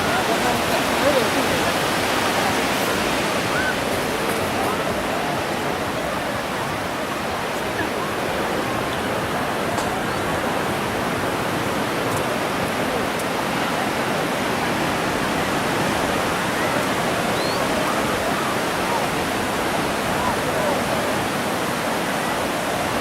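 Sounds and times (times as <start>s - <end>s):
ocean surf breaking: 0.0s - 23.0s.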